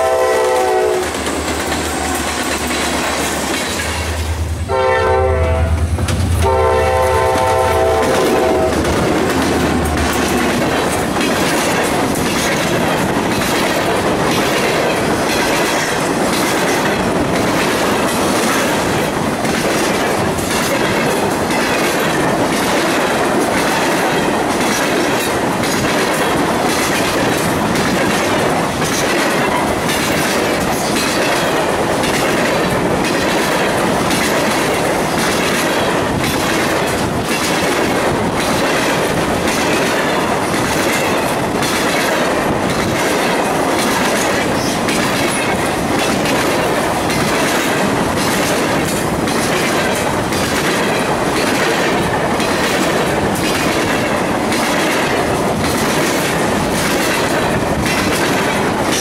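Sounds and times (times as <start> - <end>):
clickety-clack over rail joints: 0.0 - 59.0
train wheels on rails: 0.0 - 59.0
empty cars rattling: 7.2 - 59.0.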